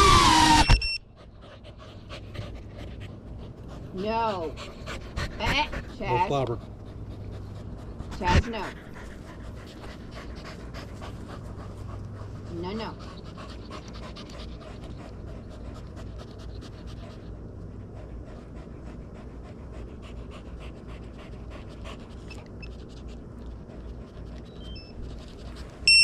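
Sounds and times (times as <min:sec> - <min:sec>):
dog panting: 0:01.0 - 0:26.0.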